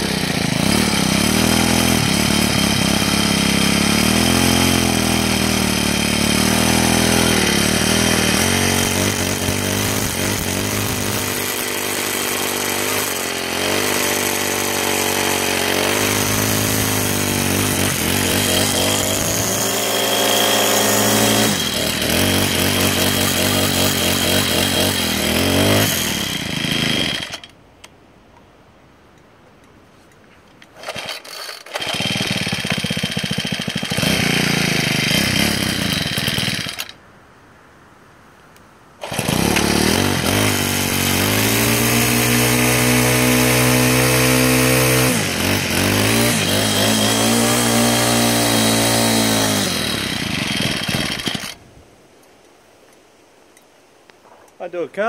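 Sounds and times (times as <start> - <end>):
brushcutter engine revving: 0.0 - 27.6, 30.7 - 37.0, 39.0 - 51.6.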